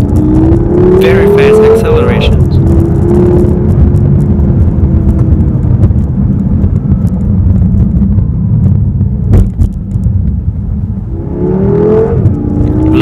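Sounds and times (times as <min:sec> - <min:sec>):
car engine and exhaust rumbling: 0:00.0 - 0:13.0.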